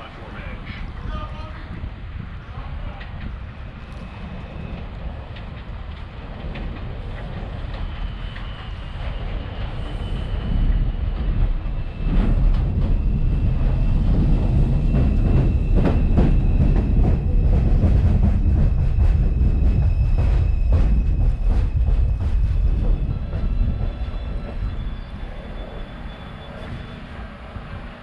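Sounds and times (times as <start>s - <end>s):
subway train approaching: 0.0s - 28.0s
high whine: 3.5s - 28.0s.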